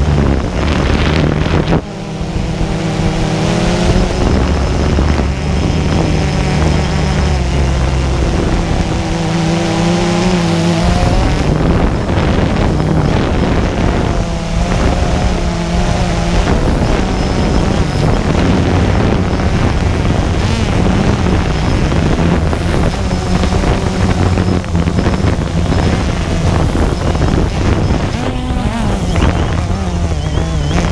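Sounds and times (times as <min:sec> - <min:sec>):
drone propellers whirring: 0:00.0 - 0:30.9.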